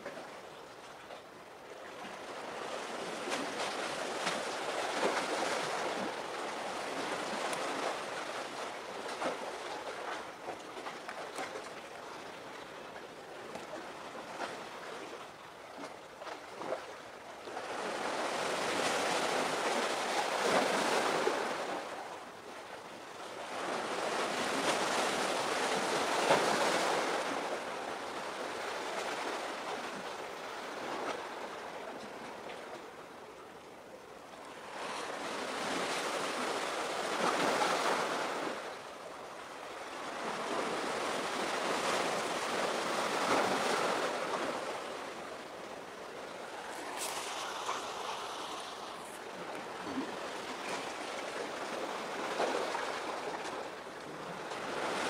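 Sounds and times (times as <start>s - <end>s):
sea waves washing ashore: 1.9s - 33.5s, 34.1s - 55.0s.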